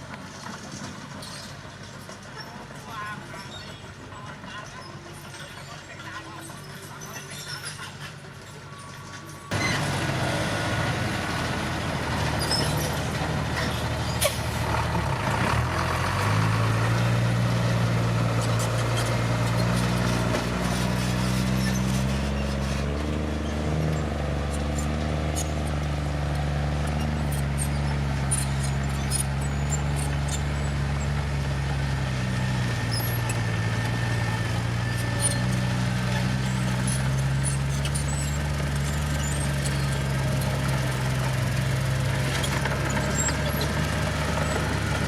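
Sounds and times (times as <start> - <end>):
heavy diesel engine under load: 0.0 - 45.0.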